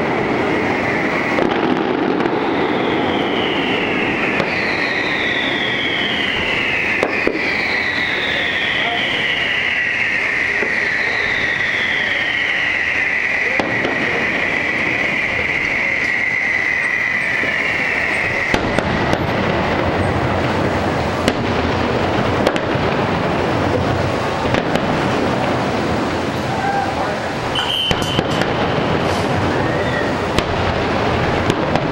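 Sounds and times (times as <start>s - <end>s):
firework pops: 0.0s - 26.1s, 27.5s - 31.9s
firework whistling tone: 0.0s - 31.9s
fireworks crackling rush: 0.0s - 31.9s.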